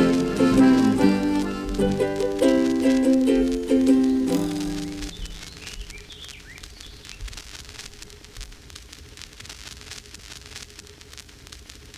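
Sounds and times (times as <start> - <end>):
crackle and hiss: 0.0 - 11.9
faint steady hum: 0.0 - 11.9.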